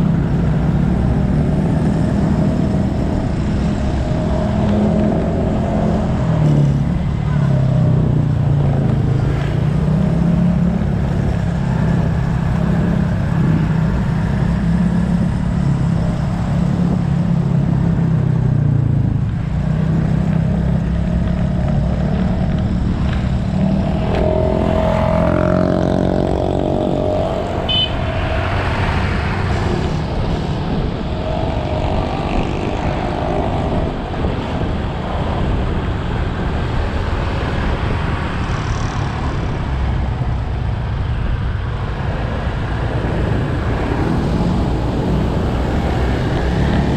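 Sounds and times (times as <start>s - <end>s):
passing vehicle engine: 0.0s - 46.9s
wind and road noise: 0.0s - 46.9s.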